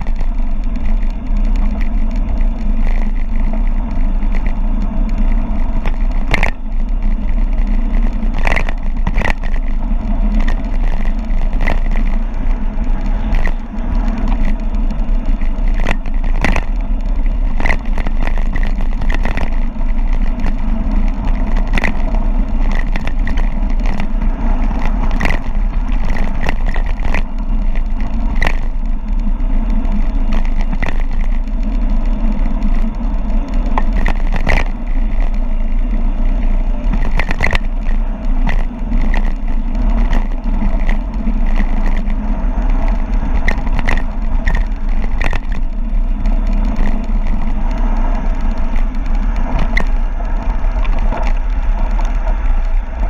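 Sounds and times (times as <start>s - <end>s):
bike rattling over gravel: 0.0s - 53.0s
wind buffeting microphone: 0.0s - 53.0s.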